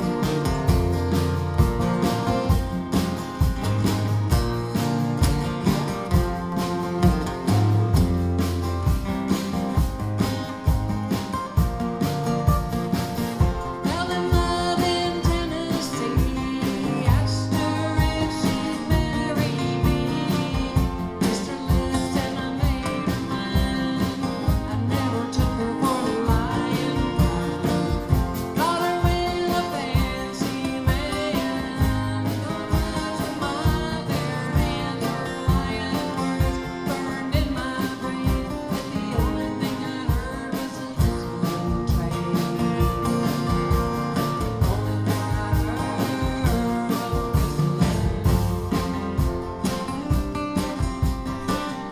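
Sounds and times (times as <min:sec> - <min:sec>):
woman singing: 0:00.0 - 0:04.0, 0:13.0 - 0:51.9
acoustic guitars strumming: 0:00.0 - 0:51.9.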